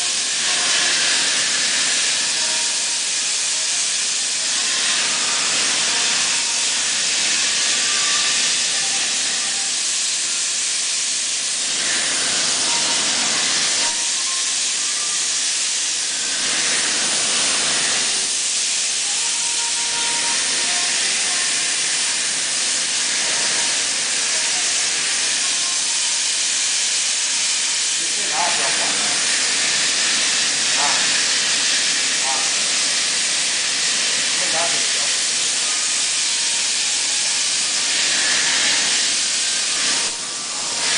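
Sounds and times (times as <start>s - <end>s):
plasma torch hissing: 0.0s - 40.9s.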